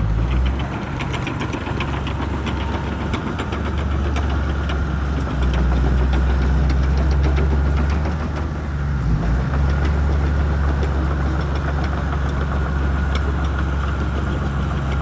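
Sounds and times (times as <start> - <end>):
bulldozer diesel engine: 0.0 - 15.0.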